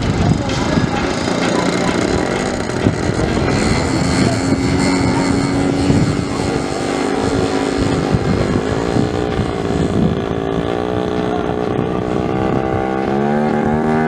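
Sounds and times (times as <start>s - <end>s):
model aircraft engines running: 0.0s - 14.0s.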